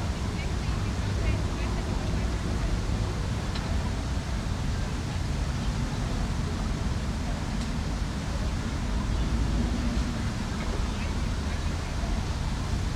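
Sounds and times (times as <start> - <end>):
faint distant voices: 0.0 - 12.9.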